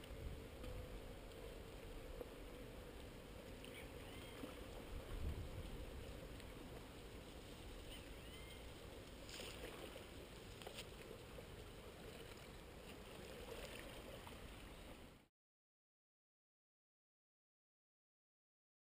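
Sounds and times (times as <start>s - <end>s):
low rumble and hiss: 0.0s - 15.3s.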